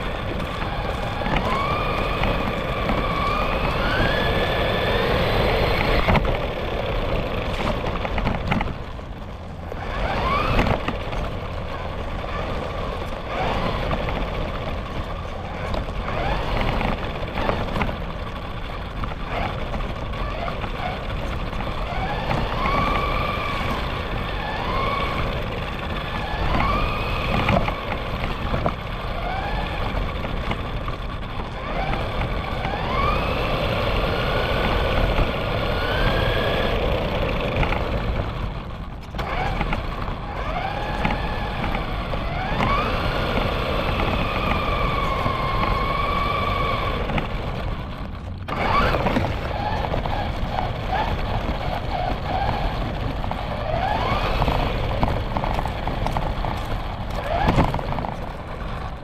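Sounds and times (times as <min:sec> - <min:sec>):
rc car motor whining: 0:00.0 - 0:59.0
wheels rumbling on pavement: 0:00.0 - 0:59.0.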